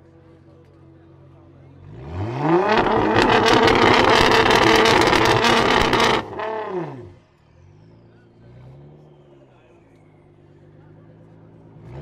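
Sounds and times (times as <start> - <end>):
car engine revving with crackling: 1.7 - 12.0.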